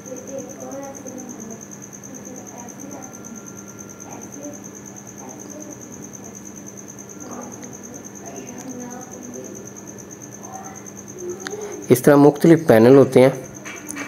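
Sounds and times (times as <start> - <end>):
faint voices: 0.0 - 14.0
machine humming with high whine: 0.0 - 14.0.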